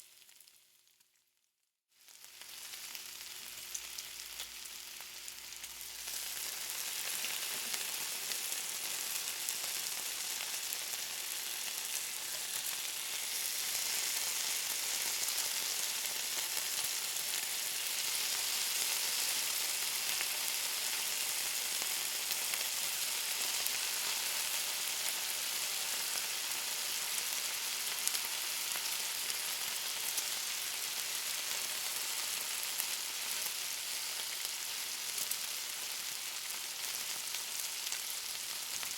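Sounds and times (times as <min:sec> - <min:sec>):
bacon sizzling: 0:00.0 - 0:01.2, 0:02.0 - 0:38.9.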